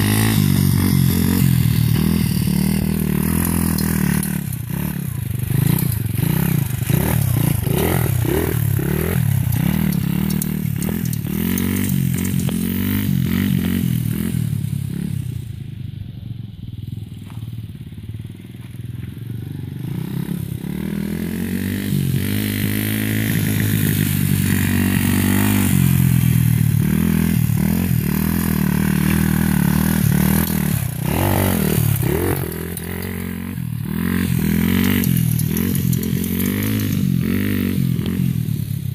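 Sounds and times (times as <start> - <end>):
dirt bike engine revving: 0.0 - 15.5, 19.8 - 38.9.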